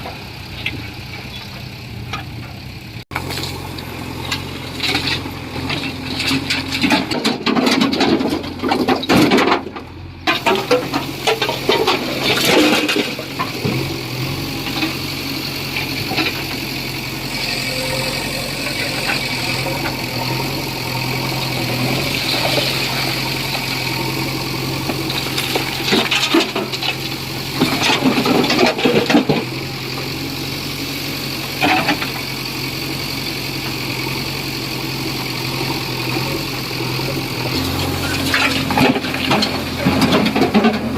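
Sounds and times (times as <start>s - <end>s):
heavy diesel machinery running: 0.0s - 40.9s
machinery clatter and rumble: 0.0s - 40.9s.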